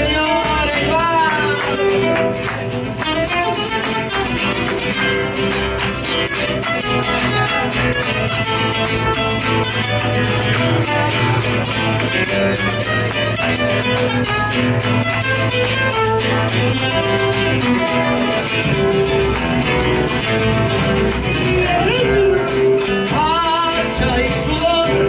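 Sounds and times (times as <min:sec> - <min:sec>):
folk music instrumental: 0:00.0 - 0:25.0
steady bass: 0:00.0 - 0:25.0
strummed and plucked guitar: 0:00.0 - 0:25.0.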